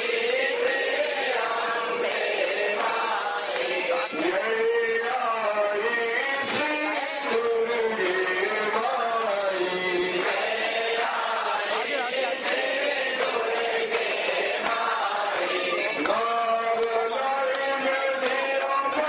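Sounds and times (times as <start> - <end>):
music: 0.0 - 19.0
voices chanting a hymn: 0.0 - 19.0.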